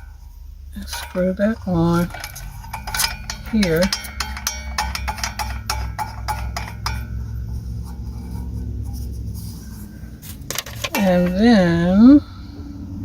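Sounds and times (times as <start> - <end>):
metal parts clinking: 0.0 - 12.0
steady low hum: 0.0 - 13.0.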